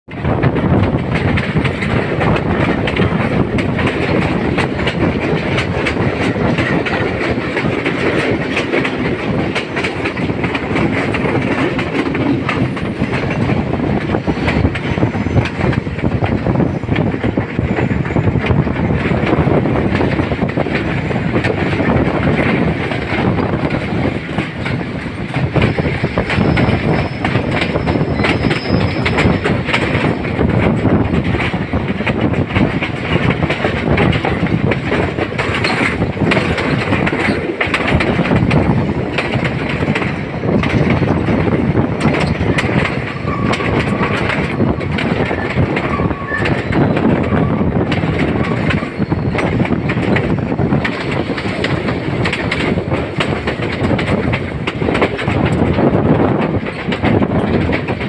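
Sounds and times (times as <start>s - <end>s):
train rumble: 0.0s - 58.0s
wheels clattering over rails: 0.1s - 58.0s.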